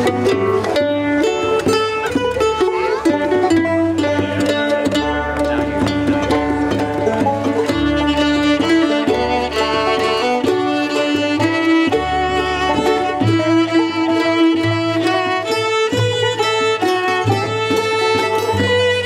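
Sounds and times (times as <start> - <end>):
bluegrass band playing: 0.0 - 19.0
fiddle lead: 0.0 - 19.0.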